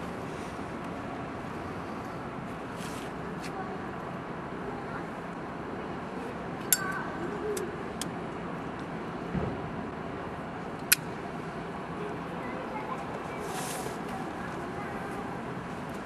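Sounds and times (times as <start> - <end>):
street background noise: 0.0 - 16.0.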